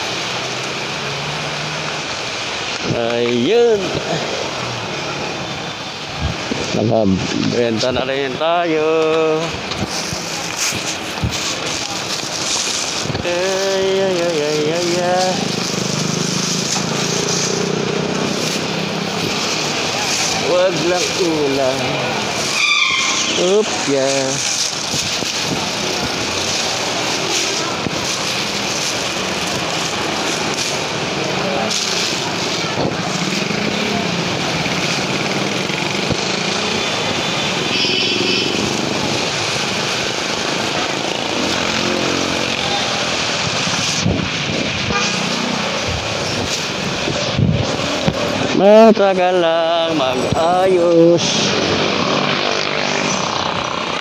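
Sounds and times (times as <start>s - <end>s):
motorcycle engines passing: 0.0s - 54.0s
street traffic: 0.0s - 54.0s.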